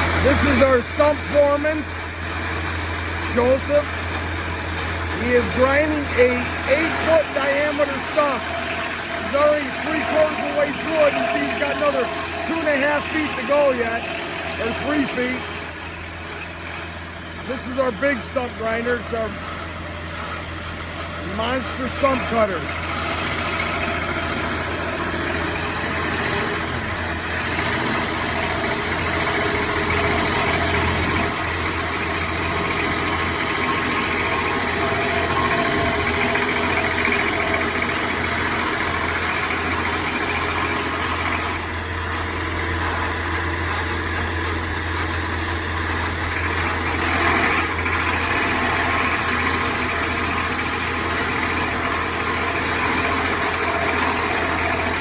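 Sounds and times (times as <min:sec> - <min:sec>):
stump grinder droning: 0:00.0 - 0:55.0.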